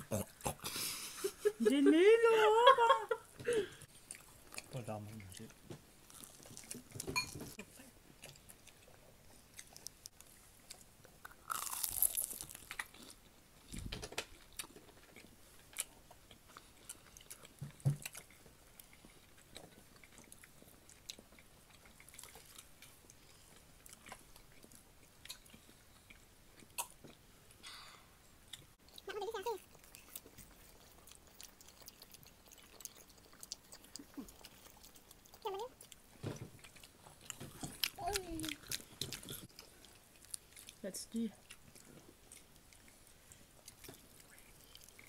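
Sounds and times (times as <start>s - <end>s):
people chewing crunchy food: 0.0s - 1.6s, 3.4s - 45.0s.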